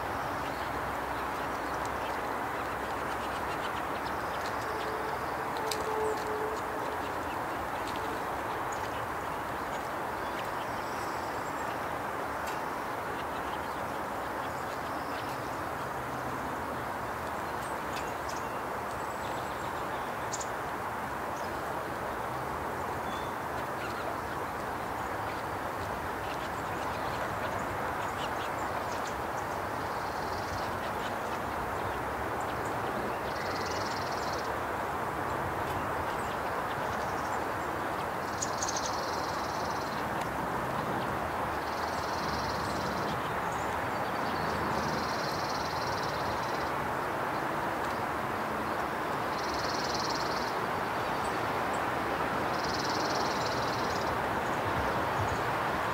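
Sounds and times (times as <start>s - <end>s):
rushing background noise: 0.0s - 55.9s
songbird chirps: 0.0s - 55.9s.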